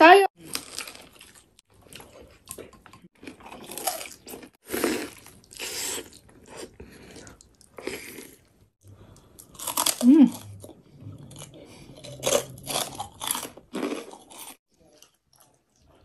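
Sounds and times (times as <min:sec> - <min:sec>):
chewing and biting food: 0:00.4 - 0:08.5, 0:09.1 - 0:16.0
food crunching: 0:00.4 - 0:16.0.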